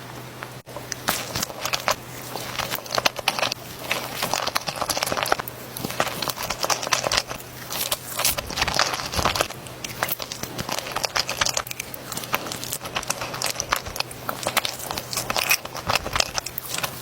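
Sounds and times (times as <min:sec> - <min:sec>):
biting and chewing food: 0:00.4 - 0:17.0.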